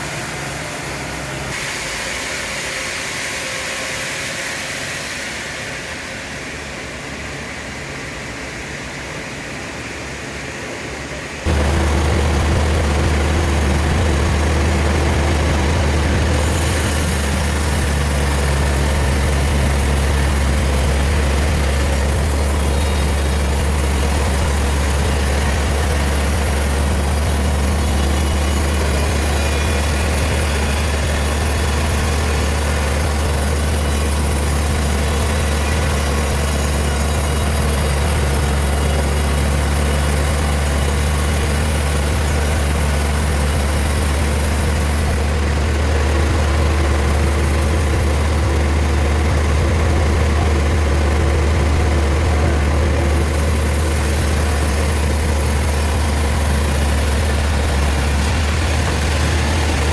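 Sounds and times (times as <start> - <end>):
deep steady hum: 0.0 - 59.9
heavy sawmill machinery running: 0.0 - 59.9.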